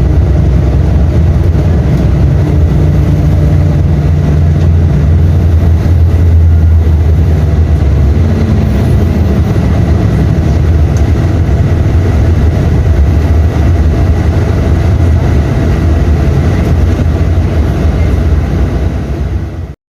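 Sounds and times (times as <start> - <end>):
bus diesel engine rumbling: 0.0 - 19.8.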